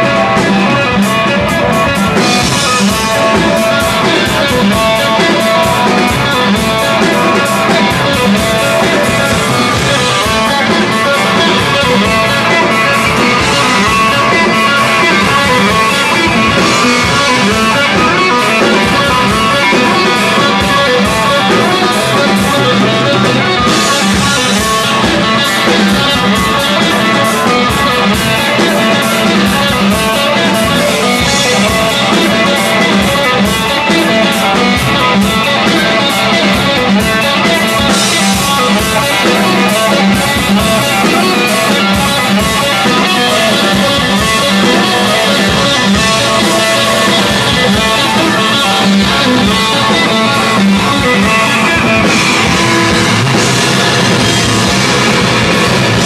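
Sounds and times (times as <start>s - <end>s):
drum kit pounding: 0.0s - 56.0s
electric guitar: 0.0s - 56.0s.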